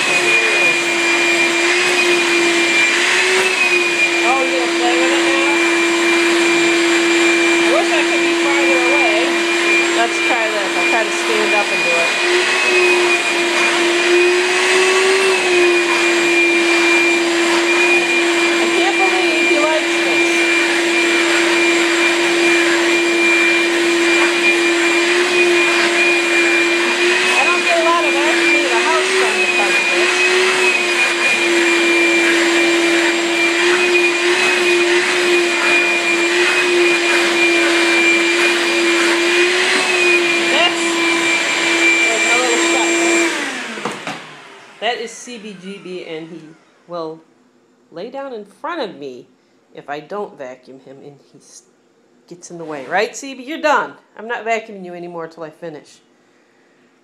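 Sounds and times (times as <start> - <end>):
shop vac running: 0.0 - 47.1, 52.4 - 54.0.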